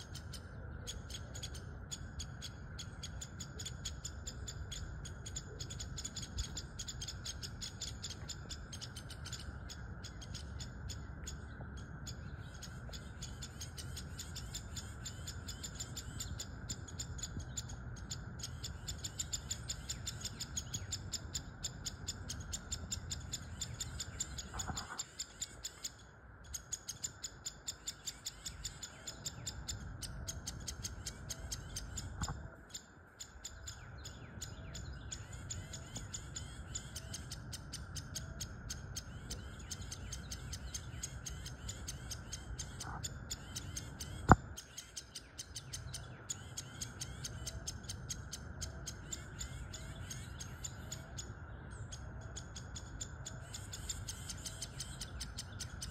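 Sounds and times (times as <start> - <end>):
nestlings chattering chirps: 0.0 - 55.9.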